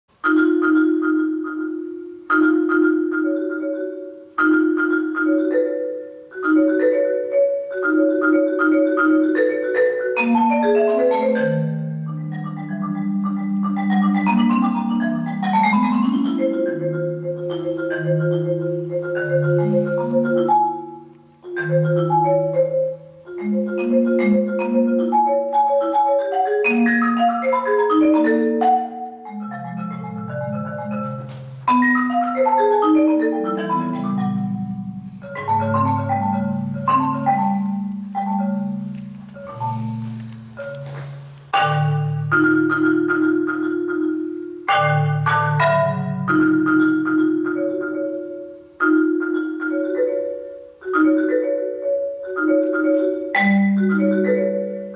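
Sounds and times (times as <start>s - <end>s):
solo marimba: 0.1s - 54.9s.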